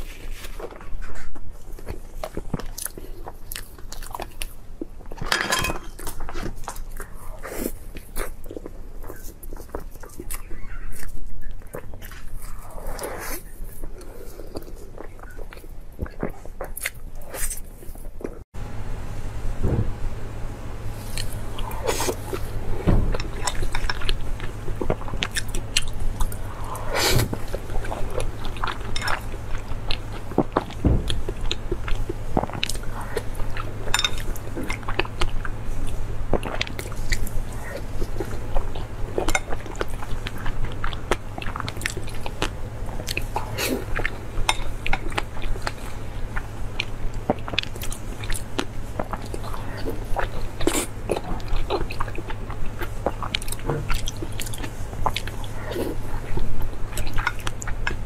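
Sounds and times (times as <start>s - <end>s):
steady low hum: 0.0s - 58.0s
person chewing: 1.6s - 5.2s, 5.9s - 18.4s, 20.8s - 58.0s.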